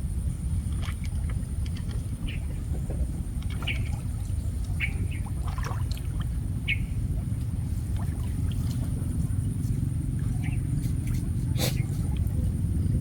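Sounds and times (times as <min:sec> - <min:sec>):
steady low rumble: 0:00.0 - 0:13.0
water trickling and splashing: 0:00.5 - 0:13.0.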